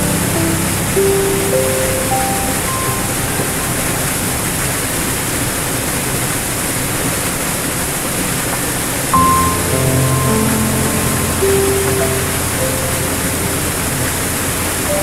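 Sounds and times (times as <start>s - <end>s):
waterfall splashing over rocks: 0.0s - 15.0s.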